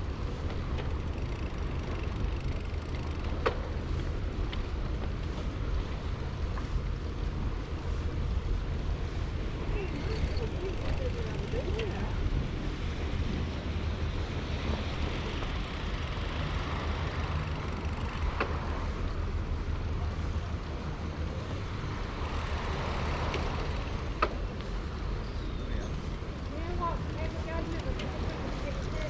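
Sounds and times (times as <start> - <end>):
wind and bicycle rolling noise: 0.0 - 29.0.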